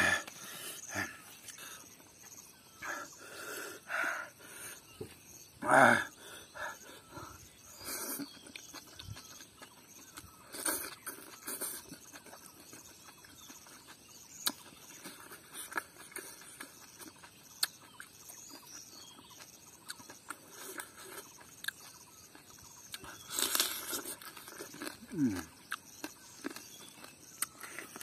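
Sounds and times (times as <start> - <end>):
chewing and crunching: 0.0 - 3.2, 6.5 - 28.0.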